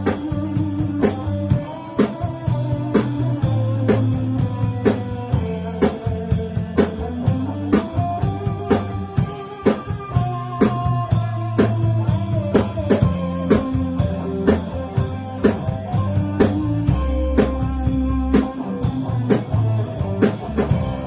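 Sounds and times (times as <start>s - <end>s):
bass: 0.0s - 21.0s
drum kit beat: 0.0s - 21.0s
electric guitar: 0.0s - 21.0s.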